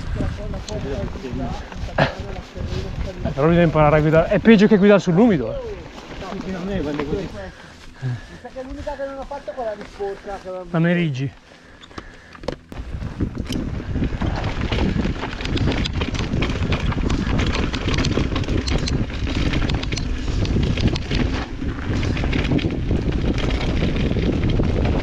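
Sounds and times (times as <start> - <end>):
wind buffeting microphone: 0.0 - 10.3, 12.1 - 25.0
bike clattering and rattling: 0.0 - 25.0
bike tyres on loose ground: 0.0 - 25.0.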